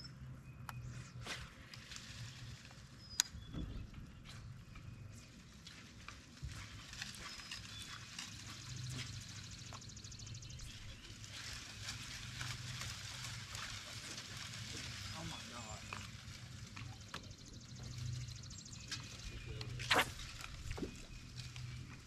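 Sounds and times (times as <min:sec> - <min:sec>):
low intermittent hum: 0:00.0 - 0:22.0.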